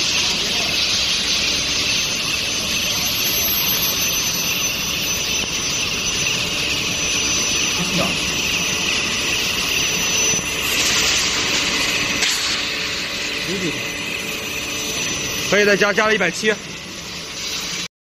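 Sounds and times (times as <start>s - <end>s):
high-pitched whine: 0.0s - 17.9s
loud steady machine hiss: 0.0s - 17.9s.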